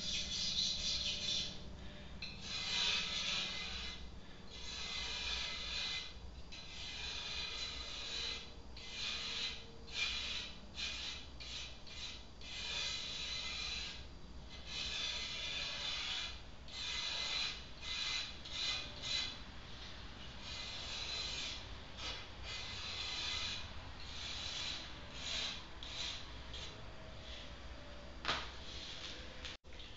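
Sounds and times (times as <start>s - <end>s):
blade scraping glass: 0.0s - 1.6s, 2.2s - 19.4s, 20.2s - 27.5s.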